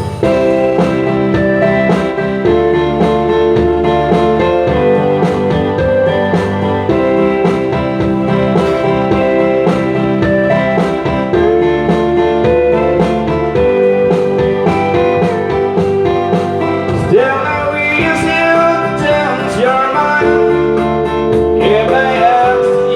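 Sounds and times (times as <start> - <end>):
guitar strumming: 0.0 - 22.3.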